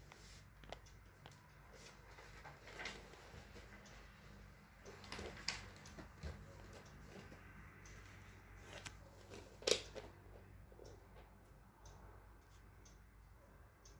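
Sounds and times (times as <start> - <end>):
faint clicks and rustles: 0.0 - 13.0.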